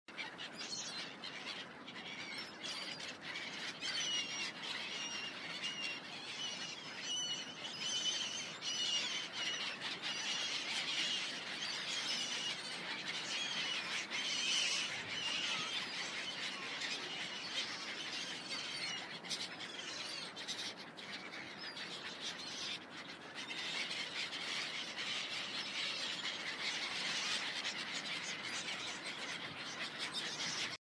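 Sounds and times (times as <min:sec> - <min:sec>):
birds chirping: 0:00.1 - 0:30.8.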